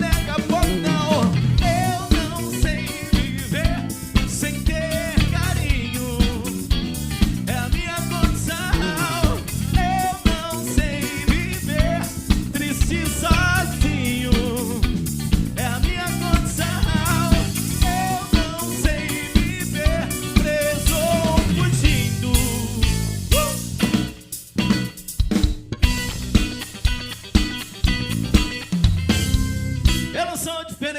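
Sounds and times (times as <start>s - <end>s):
drum kit beat with snare: 0.0s - 30.2s
bass guitar: 0.0s - 30.9s
electric guitar: 0.0s - 30.9s.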